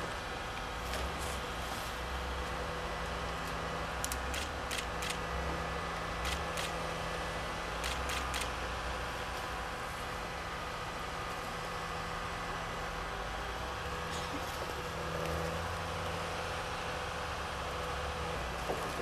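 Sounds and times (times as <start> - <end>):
diesel engine and hydraulics whining: 0.0 - 19.0.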